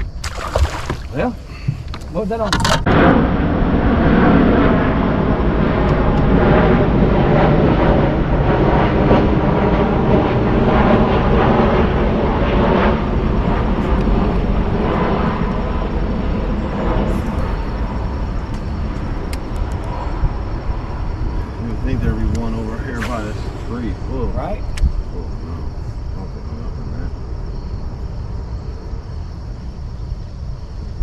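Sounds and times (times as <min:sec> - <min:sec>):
water noise: 0:00.0 - 0:26.8
rushing wind: 0:00.0 - 0:31.0.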